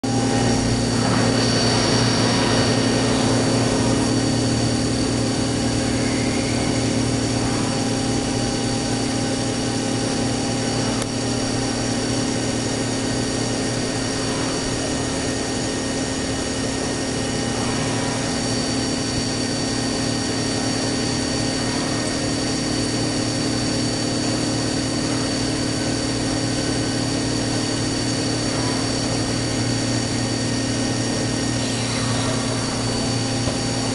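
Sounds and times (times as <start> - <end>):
milling machine spindle hum: 0.0 - 33.9
coolant hiss: 0.1 - 33.9.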